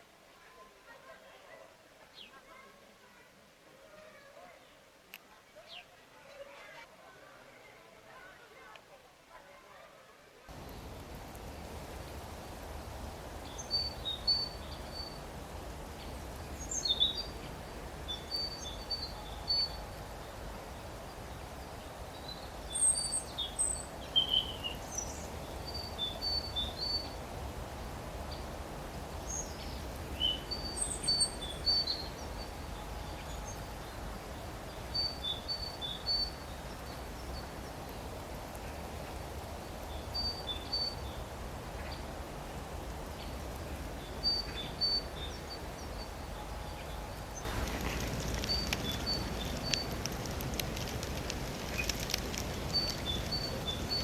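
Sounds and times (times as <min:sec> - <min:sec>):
small songbirds chirping: 0:10.5 - 0:54.0.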